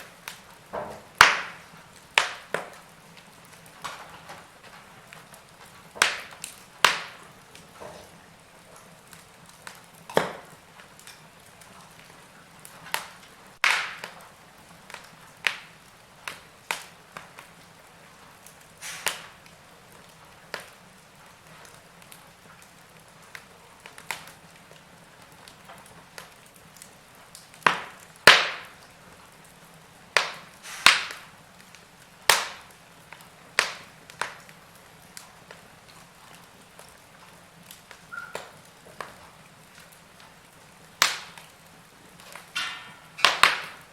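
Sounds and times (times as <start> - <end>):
faint steady hiss: 0.0 - 43.9
wood fire crackling: 0.0 - 43.9.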